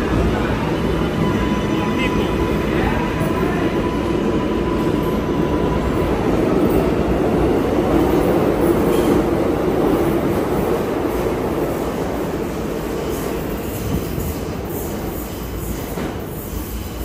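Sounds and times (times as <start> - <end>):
subway train rumbling on track: 0.0 - 17.0.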